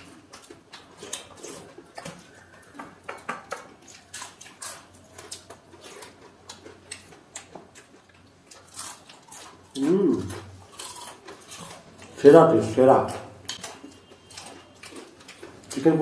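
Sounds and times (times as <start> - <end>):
chewing and wet lip-smacking: 0.0 - 16.0.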